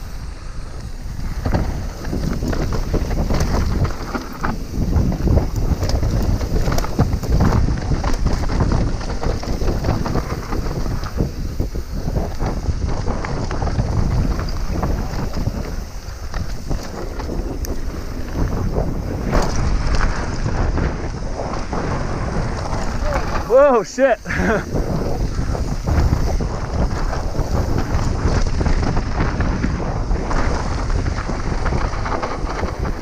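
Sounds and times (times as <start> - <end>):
bike rattling over bumps: 0.0 - 33.0
wind buffeting microphone: 0.0 - 33.0
tyres crunching on gravel: 0.8 - 33.0.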